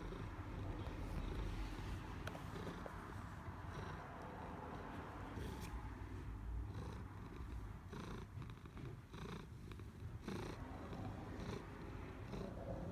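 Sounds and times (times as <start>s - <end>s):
cat purring: 0.0s - 12.9s.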